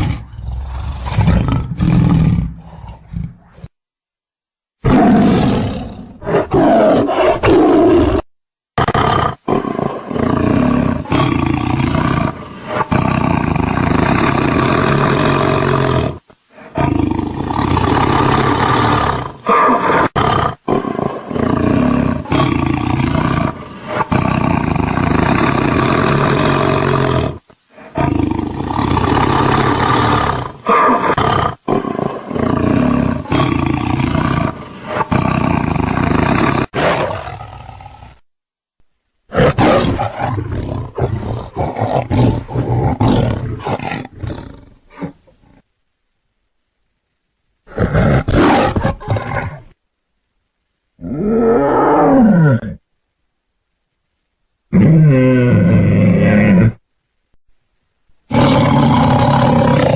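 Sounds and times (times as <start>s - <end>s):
tiger roaring: 0.0s - 3.7s, 4.8s - 38.2s, 39.3s - 45.6s, 47.7s - 49.8s, 51.0s - 52.8s, 54.7s - 56.8s, 58.3s - 59.9s.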